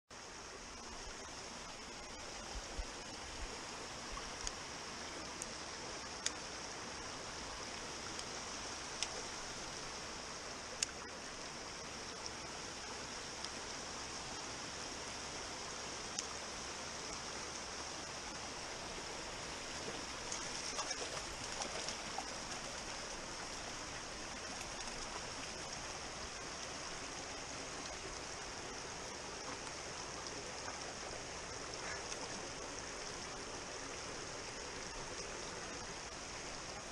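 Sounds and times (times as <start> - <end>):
stream babbling over stones: 0.2 - 36.9.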